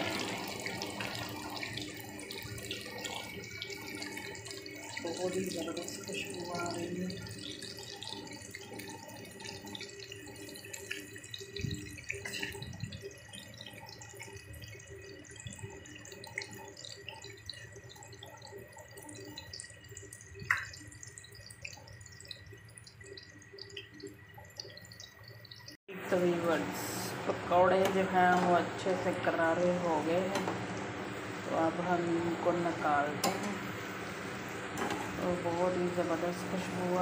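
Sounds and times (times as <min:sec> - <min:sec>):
food deep-frying in oil: 0:00.0 - 0:37.0.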